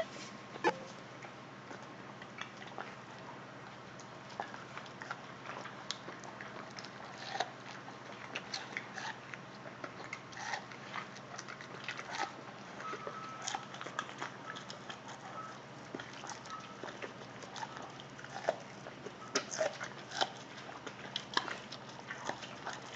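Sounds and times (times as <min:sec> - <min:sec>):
dogs chewing and crunching corn: 0:00.0 - 0:22.9.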